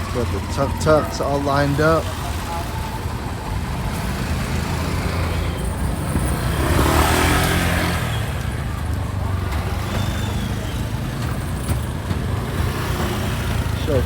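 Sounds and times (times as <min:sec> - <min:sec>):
street traffic: 0:00.0 - 0:14.0
vehicle passing close: 0:00.0 - 0:14.0.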